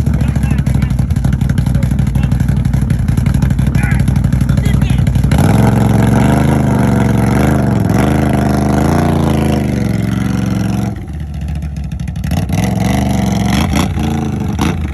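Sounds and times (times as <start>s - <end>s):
atv engine revving: 0.0s - 14.9s.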